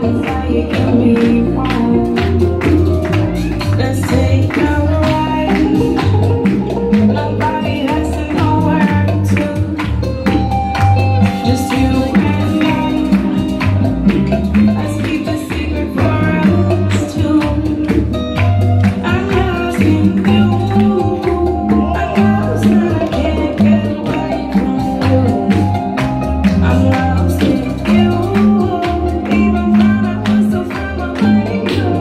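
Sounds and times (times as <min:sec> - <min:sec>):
guitar: 0:00.0 - 0:32.0
person singing: 0:00.0 - 0:32.0
scraped percussion beat: 0:00.0 - 0:32.0.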